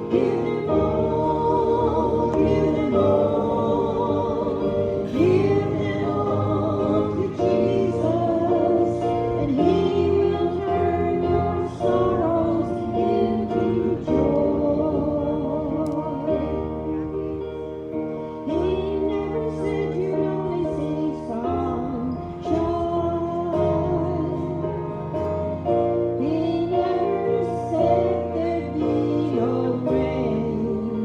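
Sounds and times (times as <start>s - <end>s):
voices singing a gospel hymn: 0.0s - 17.1s, 18.2s - 31.0s
instrumental held chords: 0.0s - 31.0s.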